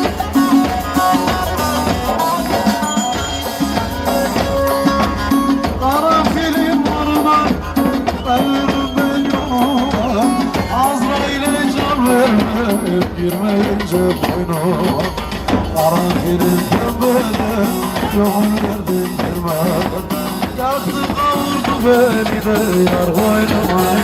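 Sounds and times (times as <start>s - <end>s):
fast steady percussion: 0.0s - 24.0s.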